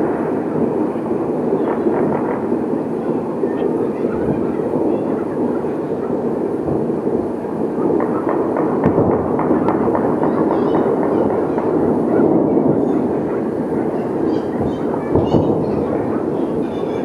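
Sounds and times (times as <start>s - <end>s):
fireworks shells bursting: 0.0s - 17.0s
sharp firework cracks: 0.0s - 17.0s.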